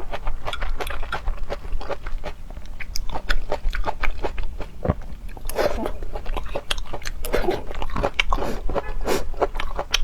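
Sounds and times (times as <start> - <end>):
person chewing wetly: 0.0 - 10.0.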